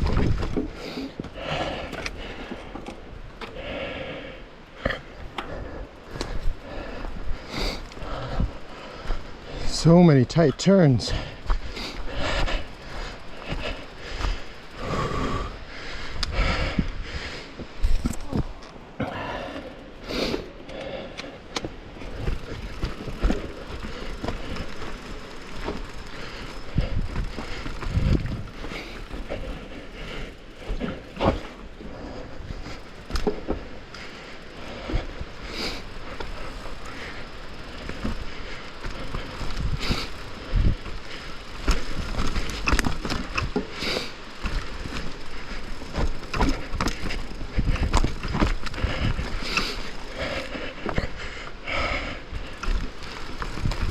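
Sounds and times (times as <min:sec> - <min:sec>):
bike frame and chain rattling: 0:00.0 - 0:53.9
bike tyres crunching over dirt: 0:00.0 - 0:53.9.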